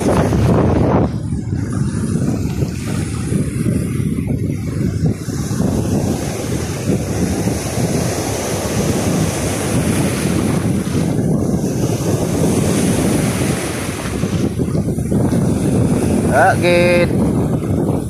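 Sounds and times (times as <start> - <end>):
sea waves breaking on shore: 0.0 - 18.0
wind buffeting microphone: 0.0 - 18.0.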